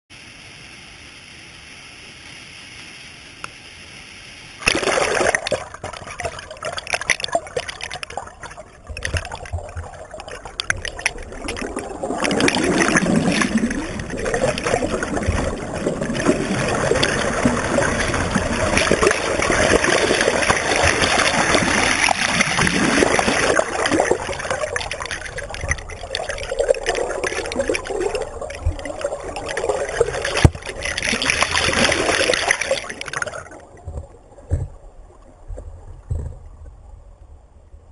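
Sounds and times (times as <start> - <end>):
underwater churning and bubbling: 4.6 - 37.9.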